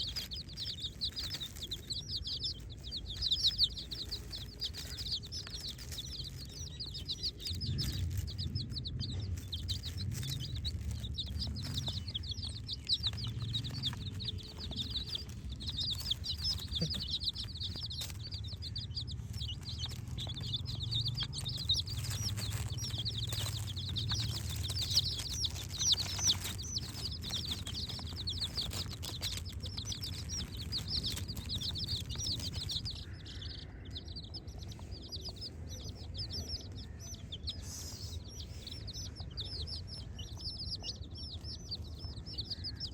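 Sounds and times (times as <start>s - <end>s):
chicks peeping: 0.0s - 42.9s.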